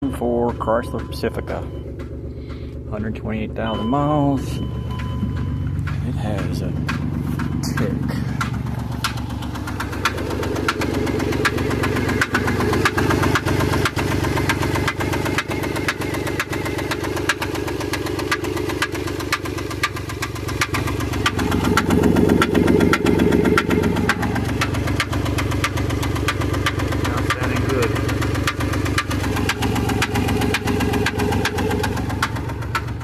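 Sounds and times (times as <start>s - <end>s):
car engine running: 0.0s - 33.0s
sharp engine ticking: 0.0s - 33.0s.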